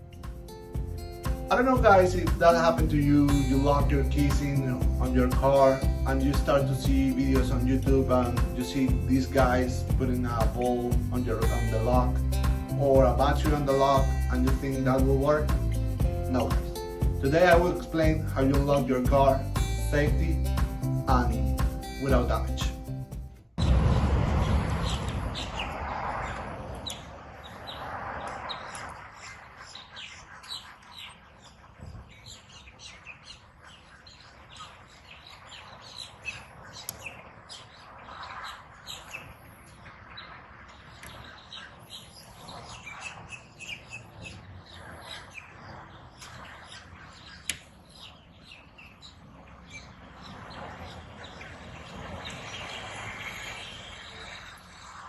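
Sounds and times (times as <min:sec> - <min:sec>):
outdoor background noise: 0:00.0 - 0:22.4, 0:23.2 - 0:55.0
birds chirping: 0:00.0 - 0:23.1, 0:24.2 - 0:55.0.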